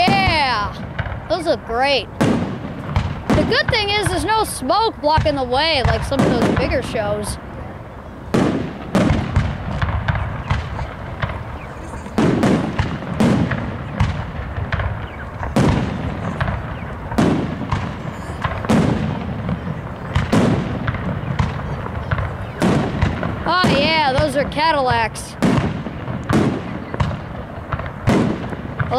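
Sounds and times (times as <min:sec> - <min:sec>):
fireworks pops and crackle: 0:00.0 - 0:07.4, 0:08.3 - 0:28.9
fireworks bursting with loud bangs: 0:00.0 - 0:28.9.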